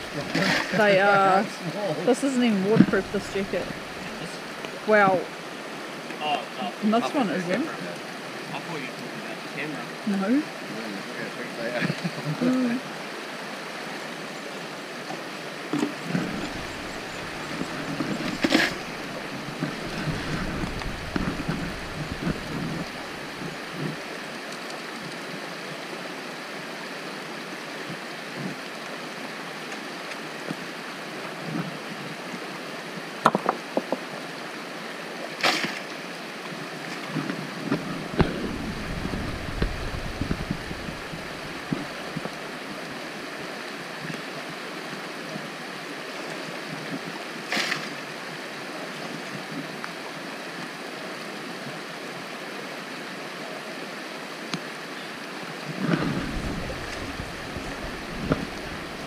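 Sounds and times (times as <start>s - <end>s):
creek rushing: 0.0s - 59.0s.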